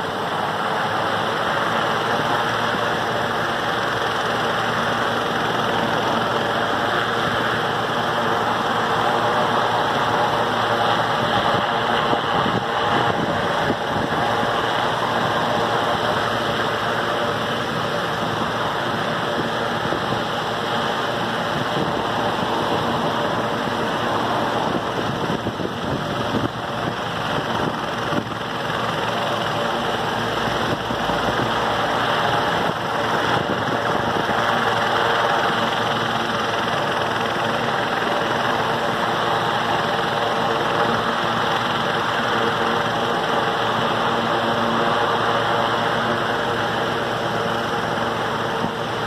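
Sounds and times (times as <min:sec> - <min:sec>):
helicopter turbine engines and rotor: 0:00.0 - 0:49.0.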